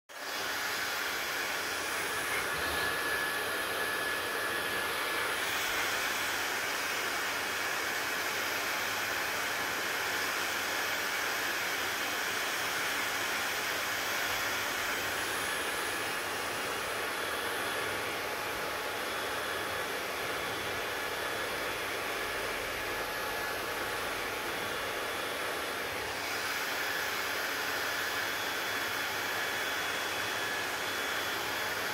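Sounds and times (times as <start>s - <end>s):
hair dryer running: 0.1s - 31.9s.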